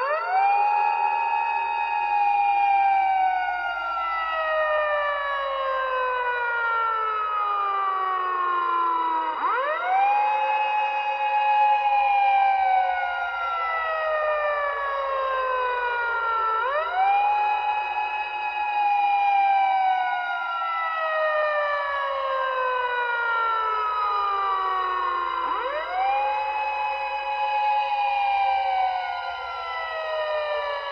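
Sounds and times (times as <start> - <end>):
siren wailing: 0.0 - 30.9.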